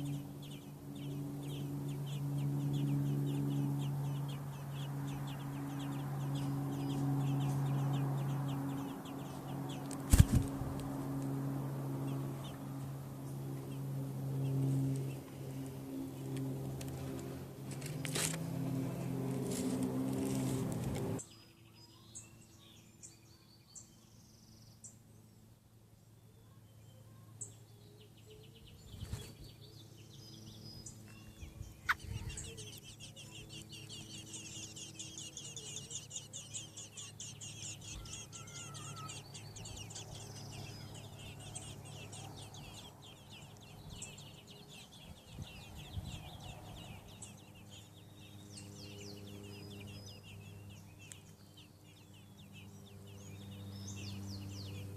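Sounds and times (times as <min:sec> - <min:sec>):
nestling birds begging peeps: 0:00.0 - 0:25.0, 0:26.4 - 0:54.9.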